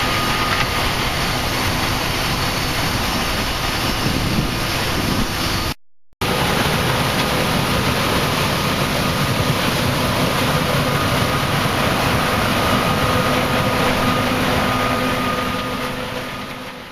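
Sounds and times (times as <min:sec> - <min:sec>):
combine harvester drone: 0:00.0 - 0:16.9.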